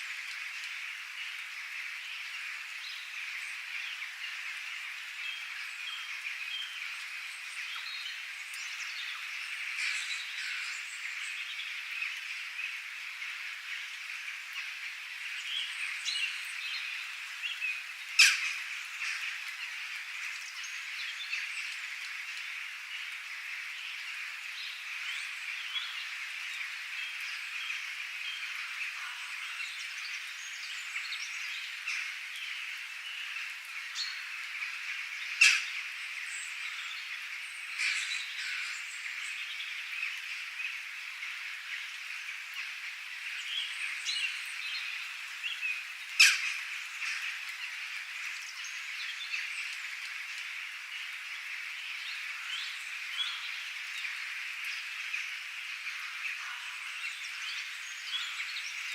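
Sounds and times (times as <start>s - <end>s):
frogs chorus: 0.0s - 58.9s.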